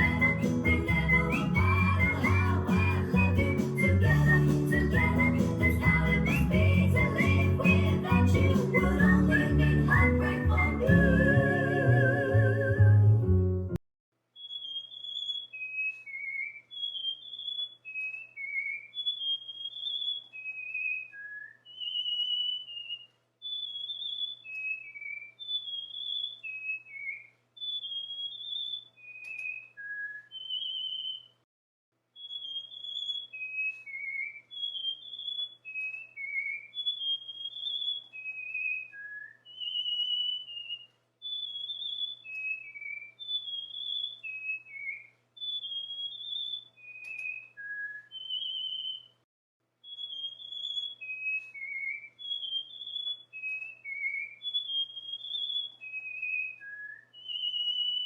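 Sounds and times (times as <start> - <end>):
cockatiel whistling: 0.0 - 12.9, 14.4 - 31.4, 32.2 - 49.2, 49.8 - 58.0.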